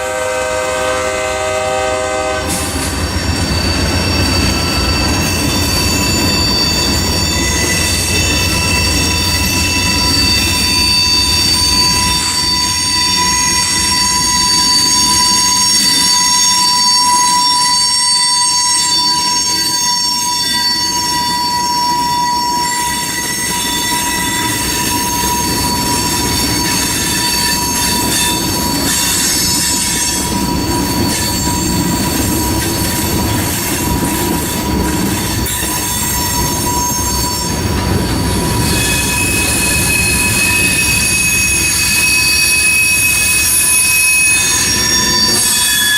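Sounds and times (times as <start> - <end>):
wheel flanges squealing on rail: 0.0 - 45.9.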